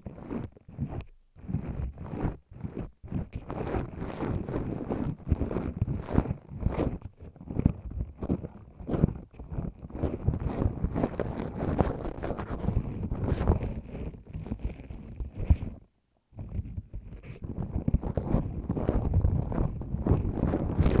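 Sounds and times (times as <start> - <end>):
ear pick scraping microphone: 0.0 - 15.8, 16.4 - 21.0.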